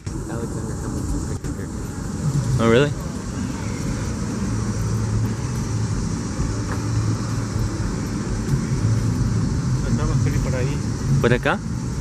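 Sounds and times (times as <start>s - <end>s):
low hum: 0.0s - 12.0s
outdoor background rumble: 0.0s - 12.0s.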